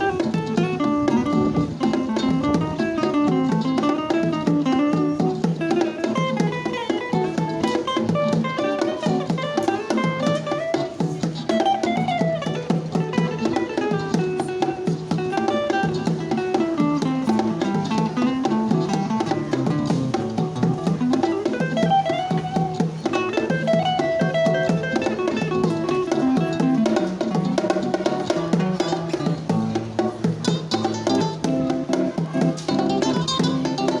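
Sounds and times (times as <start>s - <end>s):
percussive beat: 0.0s - 34.0s.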